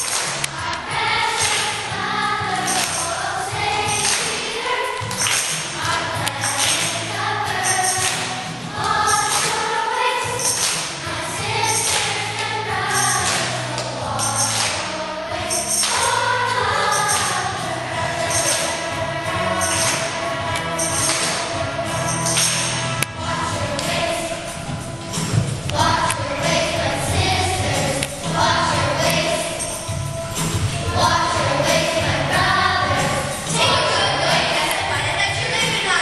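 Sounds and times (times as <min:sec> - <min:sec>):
jingling percussion: 0:00.0 - 0:36.0
voices singing over a beat: 0:00.0 - 0:36.0.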